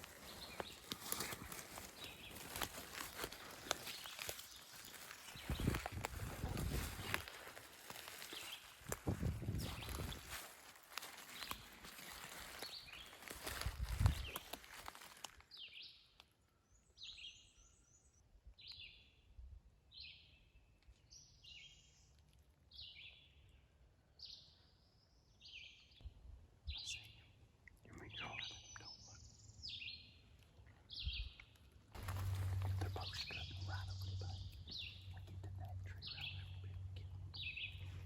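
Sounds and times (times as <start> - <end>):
faint songbird singing: 0.0 - 38.0.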